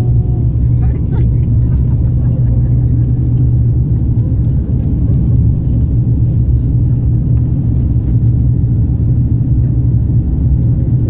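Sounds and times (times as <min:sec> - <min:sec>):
aircraft taking off: 0:00.0 - 0:11.0
constant low hum: 0:00.0 - 0:11.0.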